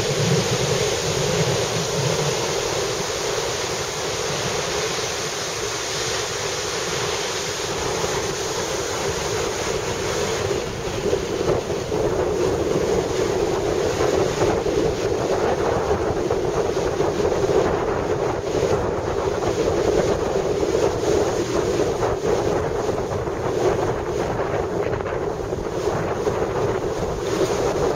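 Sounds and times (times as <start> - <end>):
heavy surf breaking on beach: 0.0 - 27.9
wind buffeting microphone: 0.0 - 27.9.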